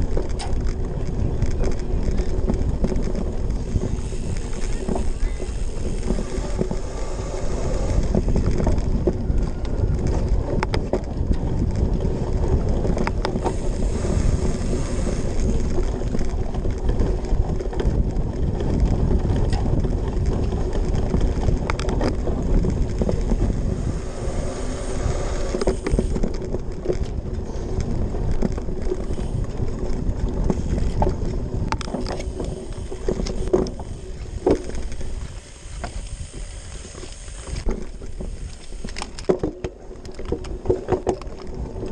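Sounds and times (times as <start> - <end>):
bike frame rattling and clicking: 0.0 - 41.9
bike tyres rumbling on grass: 0.0 - 41.9
wind noise on microphone: 0.0 - 41.9.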